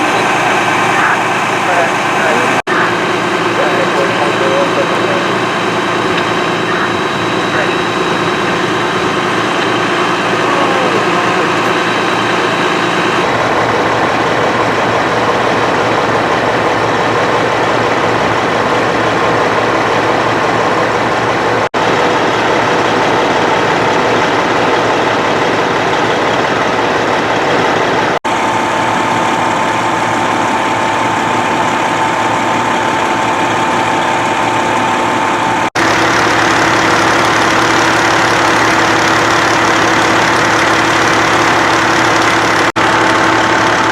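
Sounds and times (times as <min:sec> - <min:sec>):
fire engine motor running: 0:00.0 - 0:43.9.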